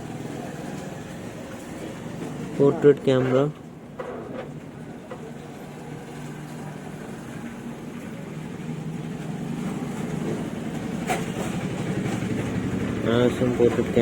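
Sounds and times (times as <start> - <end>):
vehicle engine humming: 0.0 - 3.0, 3.6 - 14.0.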